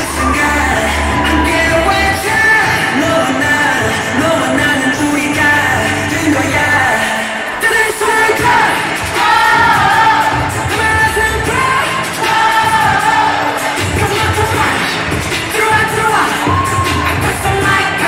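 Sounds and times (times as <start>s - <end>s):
loud pop song with singing: 0.0s - 18.0s.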